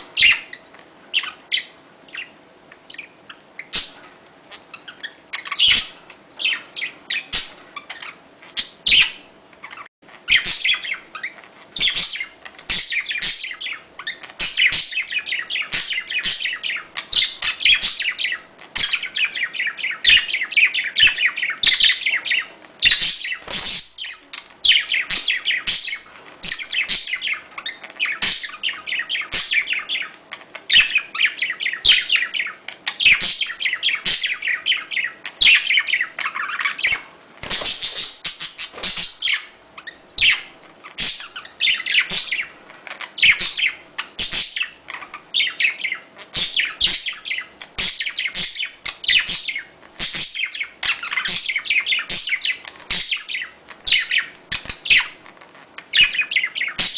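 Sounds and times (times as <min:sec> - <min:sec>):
budgerigars chattering and warbling: 0:00.1 - 0:55.2, 0:55.9 - 0:56.9.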